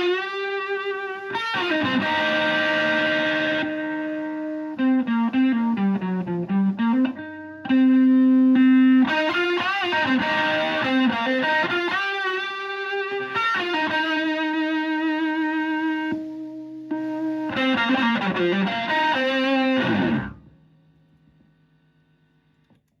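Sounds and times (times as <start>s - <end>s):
distorted electric guitar lead: 0.0s - 20.7s.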